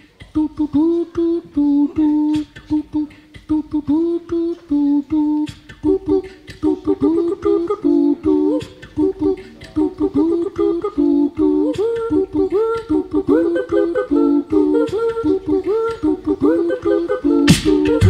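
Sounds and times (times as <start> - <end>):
beatboxed clicks: 0.0 - 18.0.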